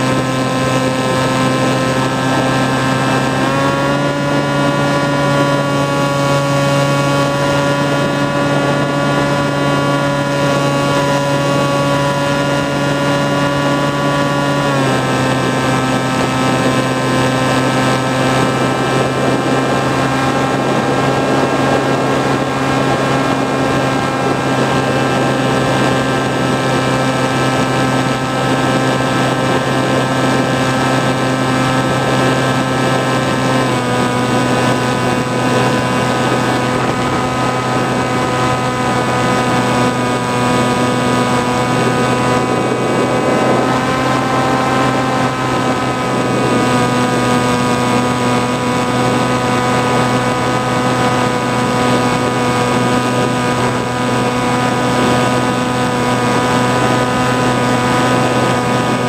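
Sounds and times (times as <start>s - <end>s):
motor and propeller whine: 0.0s - 59.0s.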